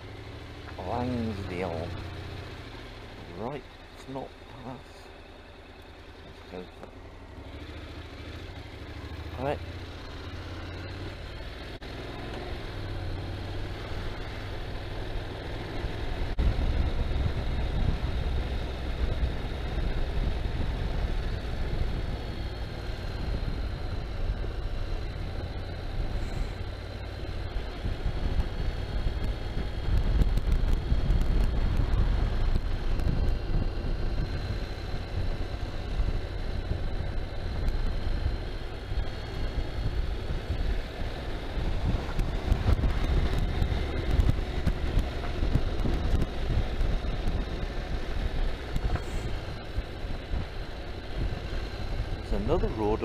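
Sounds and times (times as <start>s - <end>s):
dirt bike engine running: 0.0s - 53.0s
road and wind noise: 0.0s - 53.0s.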